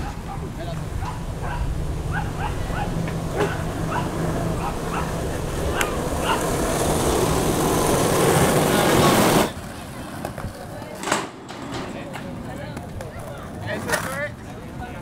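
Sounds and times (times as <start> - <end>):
skateboard wheels rolling on asphalt: 0.0 - 15.0.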